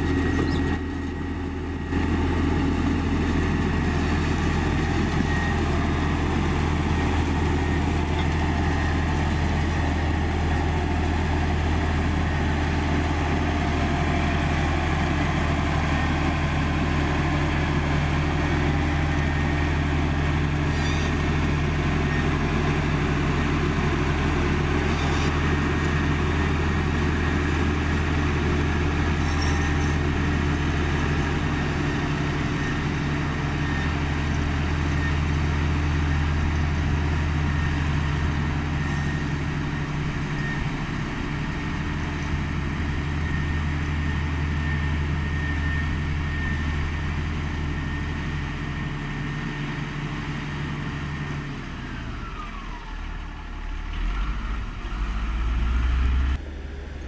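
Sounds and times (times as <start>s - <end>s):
motor grader diesel engine running: 0.0s - 57.0s.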